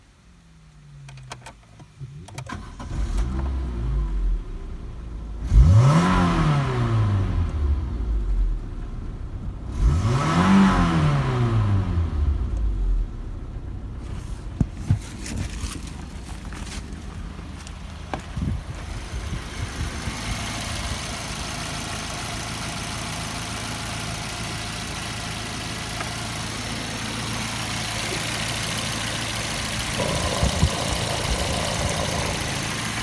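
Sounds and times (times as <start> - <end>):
petrol engine idling and revving: 2.2 - 33.0.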